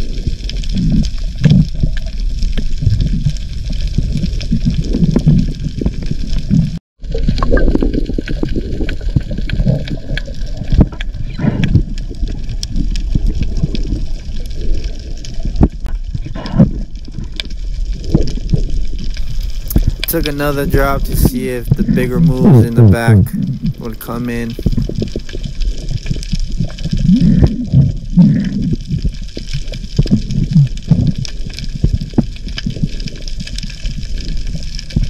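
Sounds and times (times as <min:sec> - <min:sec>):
water sloshing and gurgling: 0:00.0 - 0:35.0.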